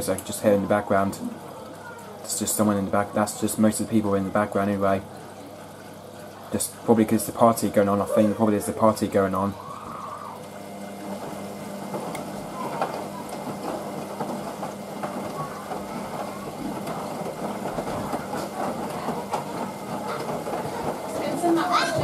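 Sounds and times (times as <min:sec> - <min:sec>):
water and wet laundry sloshing: 0:00.0 - 0:22.0
low motor hum: 0:04.3 - 0:22.0.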